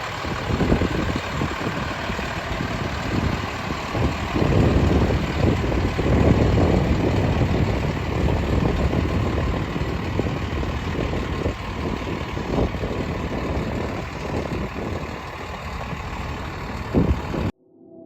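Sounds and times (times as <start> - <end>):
truck engine idling: 0.0 - 17.5.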